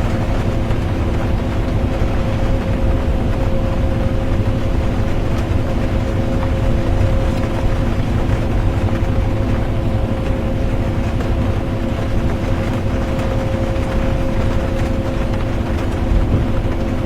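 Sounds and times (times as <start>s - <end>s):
bus engine and road rumble: 0.0s - 17.0s
drivetrain hum: 0.0s - 17.0s.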